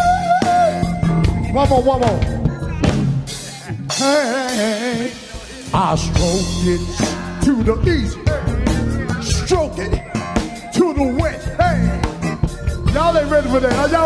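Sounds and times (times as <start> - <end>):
blues band playing: 0.0 - 14.0
lead guitar line bending: 0.0 - 14.0.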